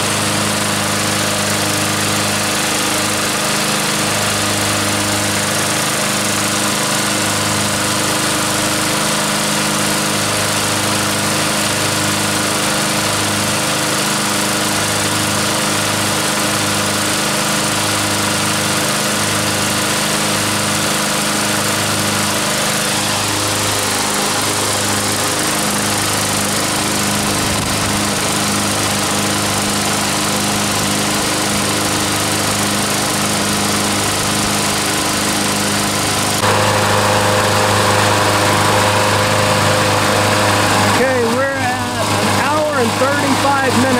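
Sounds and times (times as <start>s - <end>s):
lawn mower engines running: 0.0s - 43.9s.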